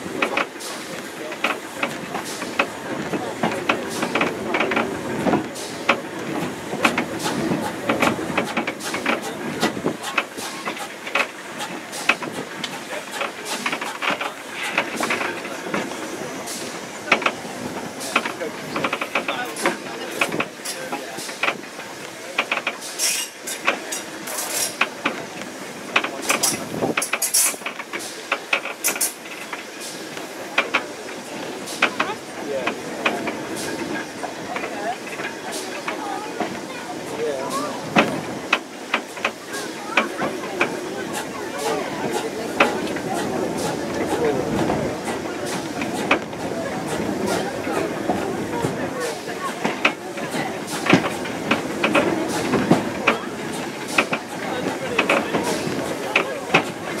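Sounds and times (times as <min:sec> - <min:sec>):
rail noise rumble: 0:00.0 - 0:57.0
railway carriage wheels rattling: 0:00.0 - 0:57.0.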